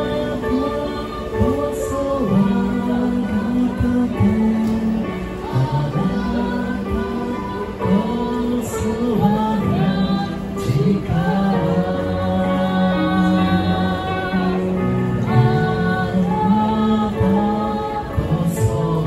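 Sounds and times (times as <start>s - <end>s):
electronic keyboard: 0.0s - 19.0s
man and woman singing: 0.0s - 19.0s.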